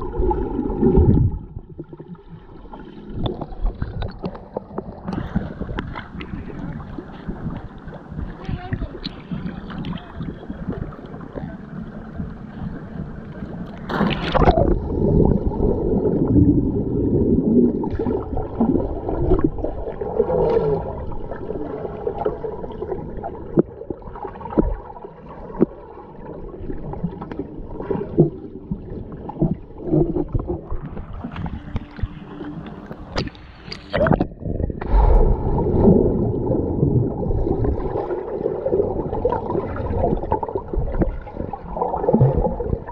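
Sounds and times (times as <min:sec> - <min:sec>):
muffled underwater bubbling: 0:00.0 - 0:42.9.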